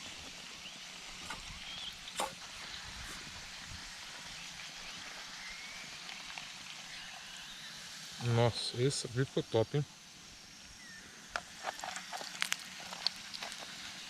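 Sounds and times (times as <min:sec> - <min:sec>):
dough sizzling in a pan: 0:00.0 - 0:14.0.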